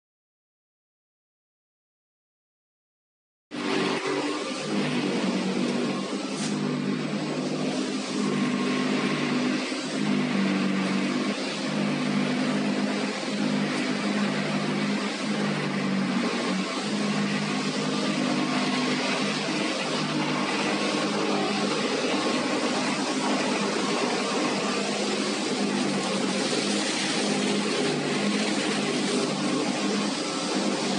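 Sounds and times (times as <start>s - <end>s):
broad rushing noise: 3.5s - 30.9s
loud machine hum: 3.5s - 30.9s.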